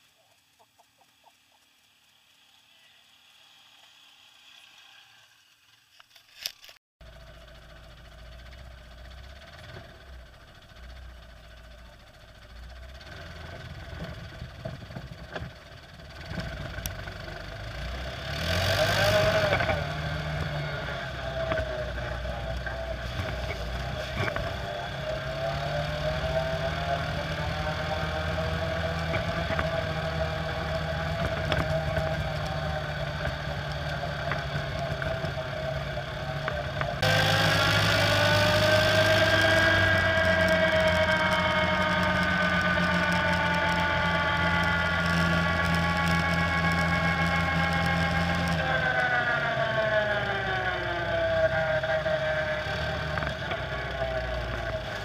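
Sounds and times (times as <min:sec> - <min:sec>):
quad bike engine running: 0:07.0 - 0:55.0.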